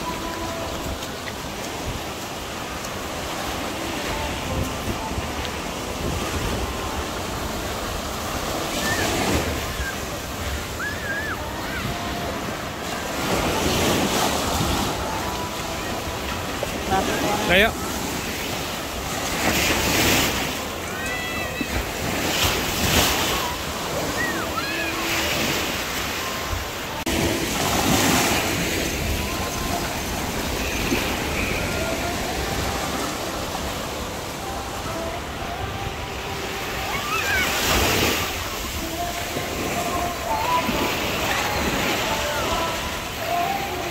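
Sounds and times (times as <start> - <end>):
small waves on sandy beach: 0.0 - 43.9.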